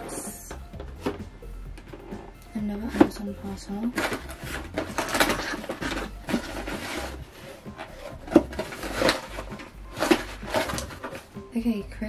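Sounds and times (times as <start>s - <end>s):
cardboard rustling and scraping: 0.0s - 11.4s.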